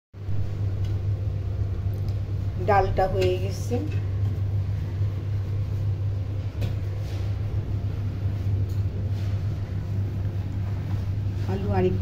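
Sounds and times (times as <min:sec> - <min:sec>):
low rumble: 0:00.2 - 0:12.0.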